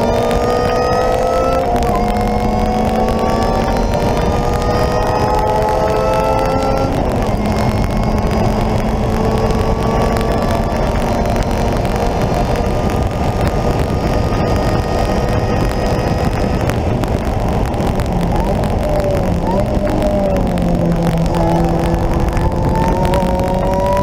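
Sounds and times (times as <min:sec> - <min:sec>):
car engine revving: 0:00.0 - 0:24.0
road and wind noise: 0:00.0 - 0:24.0.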